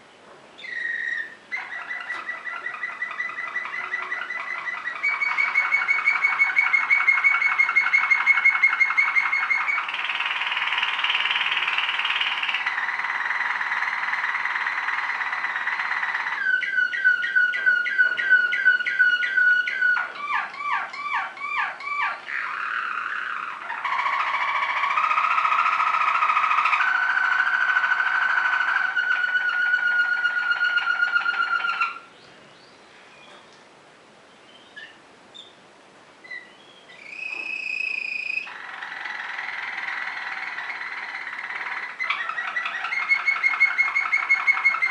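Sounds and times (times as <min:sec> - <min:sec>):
canary singing: 0:00.6 - 0:33.6, 0:34.2 - 0:35.6, 0:36.2 - 0:44.9.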